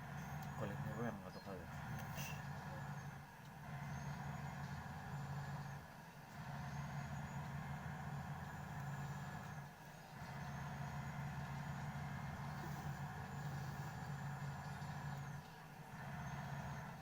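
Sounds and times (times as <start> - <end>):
car engine and road hum: 0.0 - 17.0.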